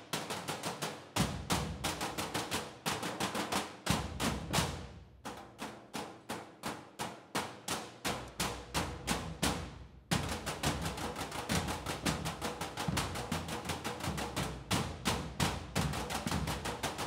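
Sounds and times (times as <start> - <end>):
sticks beating metal trash cans: 0.0 - 17.0.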